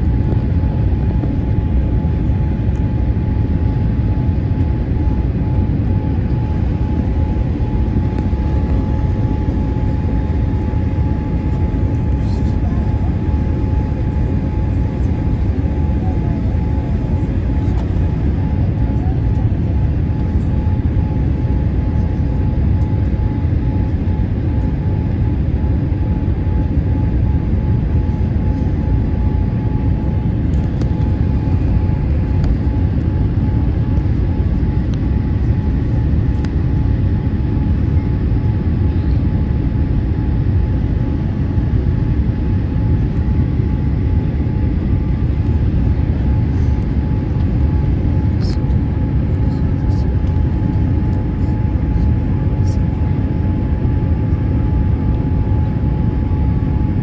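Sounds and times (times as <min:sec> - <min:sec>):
jet engines and airflow rumble: 0:00.0 - 0:57.0
thin steady hum: 0:00.0 - 0:57.0.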